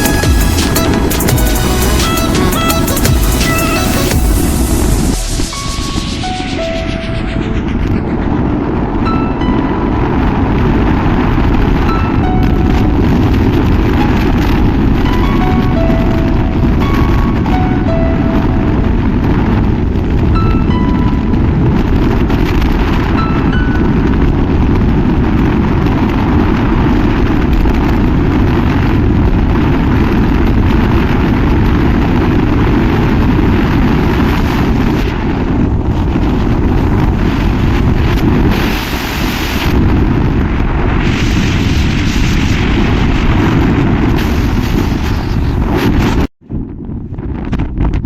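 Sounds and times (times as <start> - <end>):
dense low rumble: 0.0 - 48.0
wind buffeting microphone: 0.0 - 48.0.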